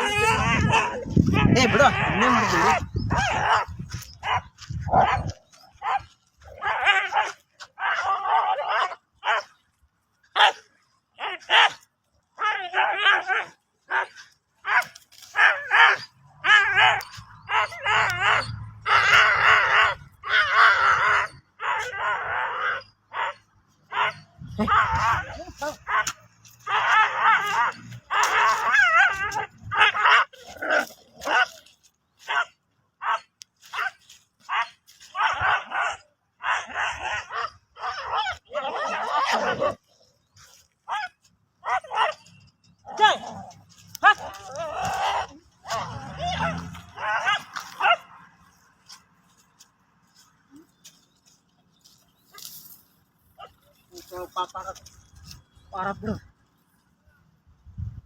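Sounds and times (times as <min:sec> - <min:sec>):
dogs yelping and screaming: 0:00.0 - 0:09.7, 0:10.3 - 0:51.0.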